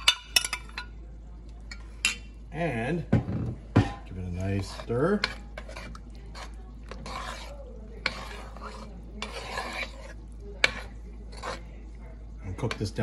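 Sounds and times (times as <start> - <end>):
spoon stirring thick sauce: 0.0 - 13.0.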